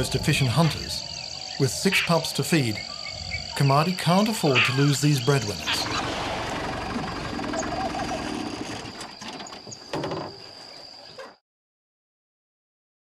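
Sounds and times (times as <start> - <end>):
high insect drone: 0.0 - 11.2.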